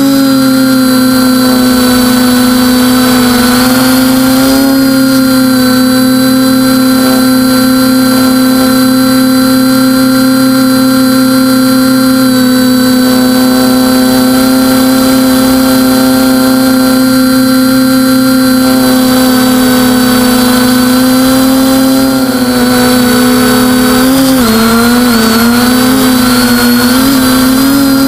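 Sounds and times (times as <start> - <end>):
drone motors whining: 0.0 - 28.0.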